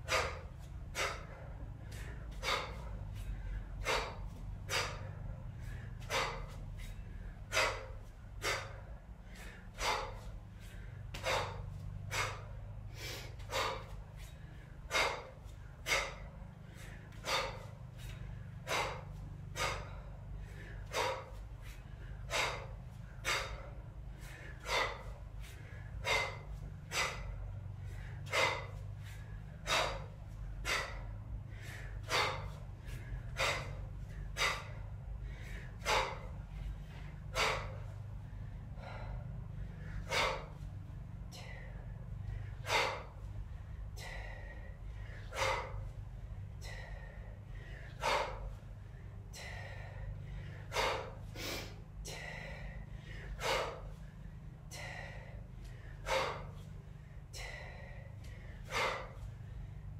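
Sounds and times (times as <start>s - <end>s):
woman's forceful breaths: 0.0s - 59.9s.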